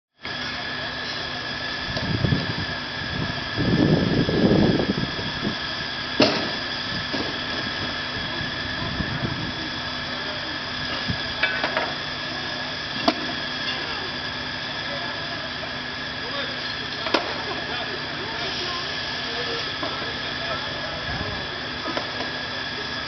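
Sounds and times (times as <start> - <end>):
machinery drone: 0.2 - 23.0.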